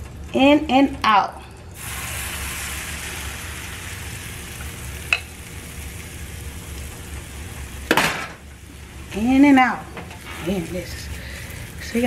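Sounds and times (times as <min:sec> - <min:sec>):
batter sizzling in frying pan: 0:01.8 - 0:12.0.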